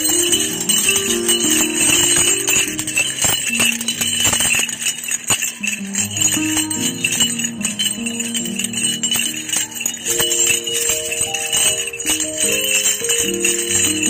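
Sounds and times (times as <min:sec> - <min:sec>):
bells jingling on flywheel: 0:00.0 - 0:14.0
music with held melody notes: 0:00.0 - 0:14.0.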